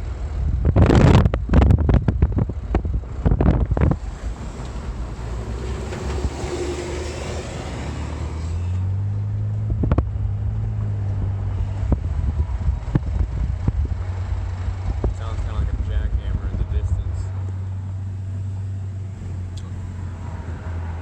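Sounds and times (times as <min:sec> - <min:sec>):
steady low drone: 0:00.0 - 0:21.0
wind and road rush: 0:00.0 - 0:21.0.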